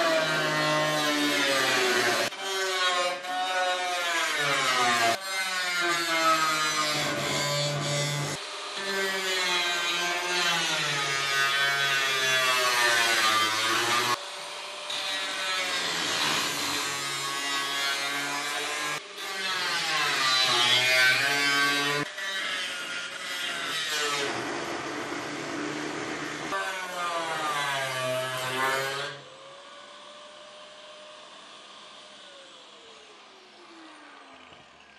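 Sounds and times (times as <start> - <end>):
angle grinder cutting steel: 0.0 - 29.3.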